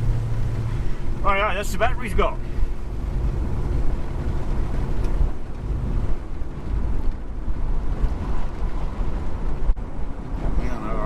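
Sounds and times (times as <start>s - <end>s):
vehicle cabin rumble: 0.0s - 11.0s.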